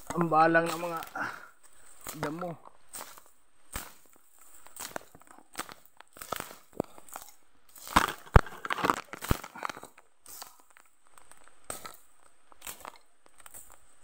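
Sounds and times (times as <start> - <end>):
dry brush crackling and snapping: 0.0 - 14.0.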